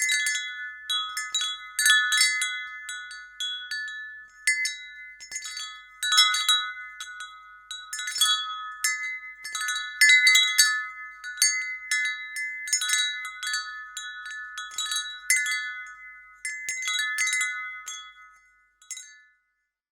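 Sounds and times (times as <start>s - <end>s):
metal wind chimes ringing: 0.0s - 19.5s.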